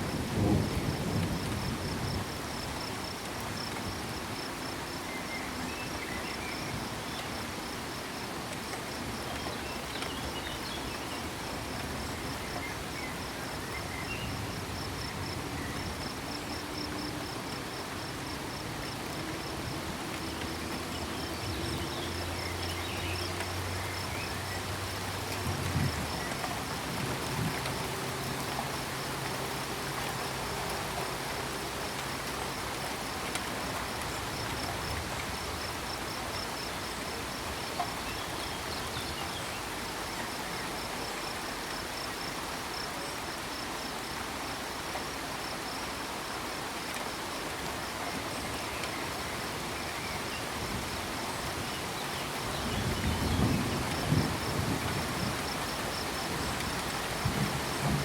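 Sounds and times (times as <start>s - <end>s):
crickets chirping: 0.0s - 58.0s
rain hiss: 0.0s - 58.0s.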